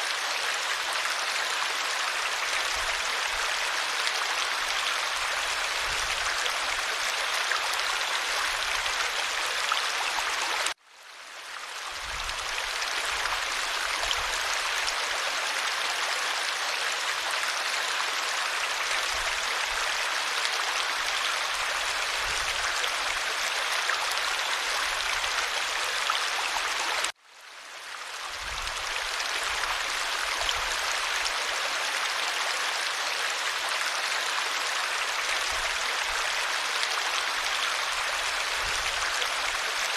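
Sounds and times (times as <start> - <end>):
stream water over stones: 0.0 - 39.9.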